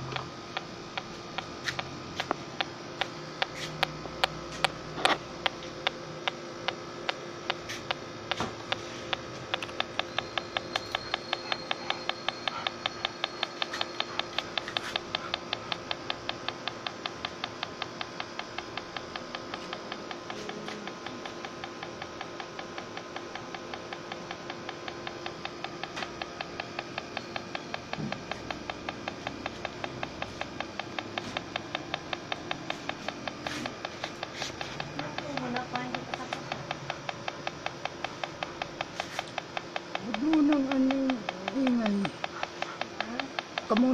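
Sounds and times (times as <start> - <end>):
leak detector ticking: 0.0 - 43.9.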